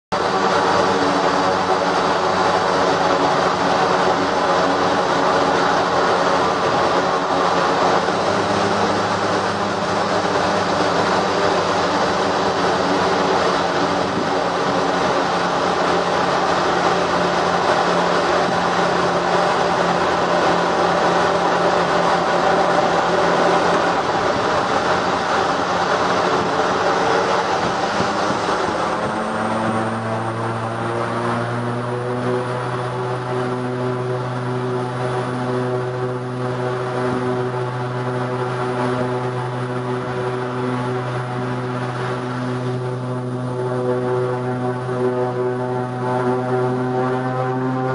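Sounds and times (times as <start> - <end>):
low hum: 0.1 - 47.9
turboprop engines droning: 0.1 - 47.9.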